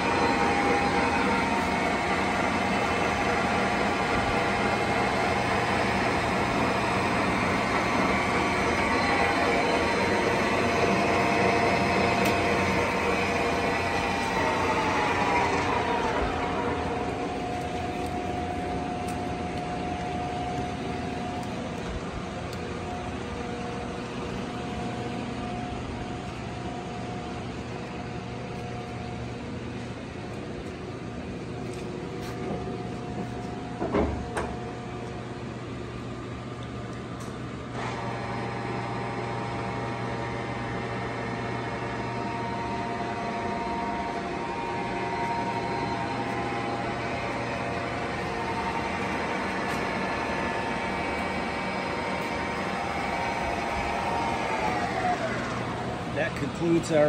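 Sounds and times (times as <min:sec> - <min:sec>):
lathe gearing whine: 0:00.0 - 0:57.0.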